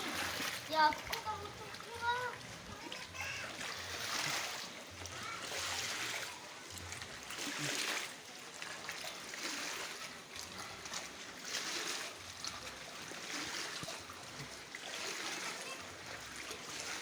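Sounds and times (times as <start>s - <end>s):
water splashes from bailing: 0.0s - 17.0s
water trickling: 0.0s - 17.0s.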